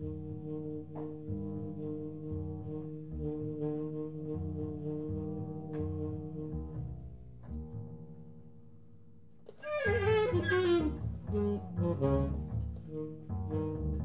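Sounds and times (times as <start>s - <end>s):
tenor saxophone: 0.0s - 7.2s, 9.5s - 14.0s
double bass notes: 0.0s - 14.0s.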